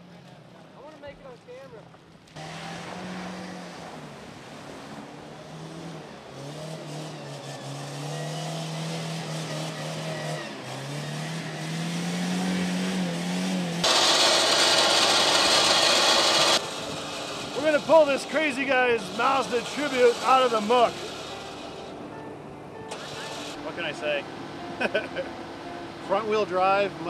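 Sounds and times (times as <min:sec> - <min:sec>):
engine revving: 0:02.3 - 0:21.9, 0:22.9 - 0:27.0.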